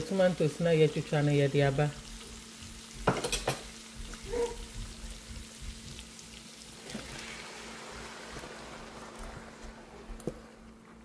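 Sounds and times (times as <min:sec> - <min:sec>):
onions sizzling in oil: 0:00.0 - 0:10.2.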